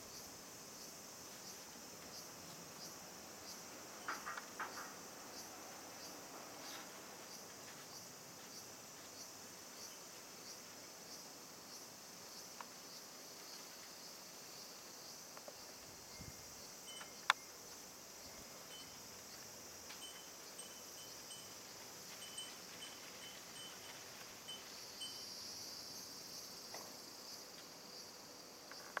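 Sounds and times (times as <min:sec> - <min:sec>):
insect chorus: 0:00.0 - 0:29.0.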